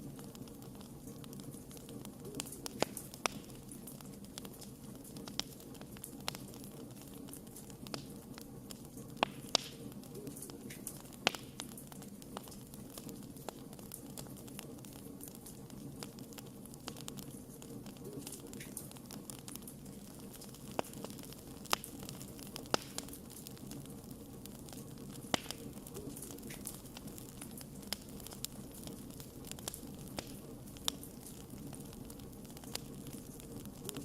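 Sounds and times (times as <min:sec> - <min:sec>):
burning wood crackles and pops: 0:00.0 - 0:34.0
wood fire hissing: 0:00.0 - 0:34.0.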